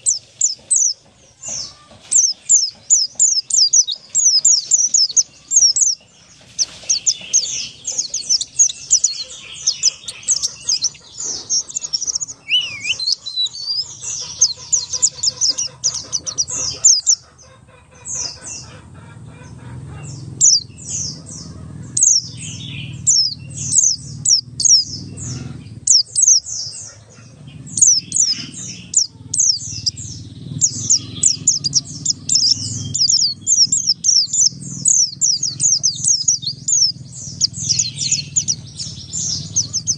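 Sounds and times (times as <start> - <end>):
bird singing high falling chirps: 0.0 - 17.3, 20.0 - 39.9.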